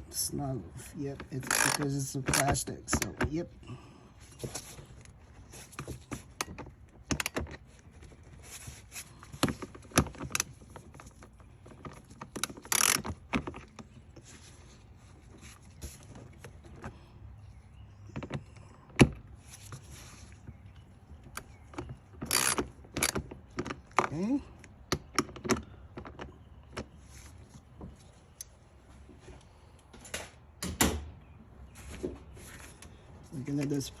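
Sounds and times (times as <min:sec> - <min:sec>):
hands and tools handling plastic: 0:00.8 - 0:03.6, 0:04.2 - 0:29.5.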